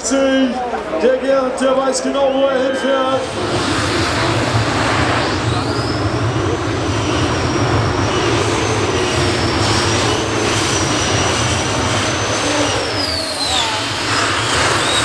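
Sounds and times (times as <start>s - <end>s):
high engine whine: 0.0s - 15.0s
tractor engine rumbling: 2.9s - 15.0s.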